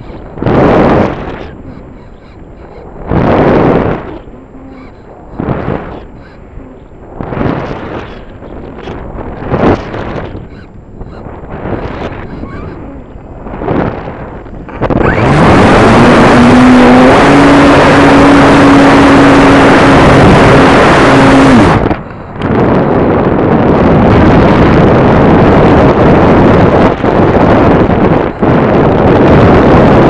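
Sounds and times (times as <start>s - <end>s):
wind rush: 0.0s - 30.0s.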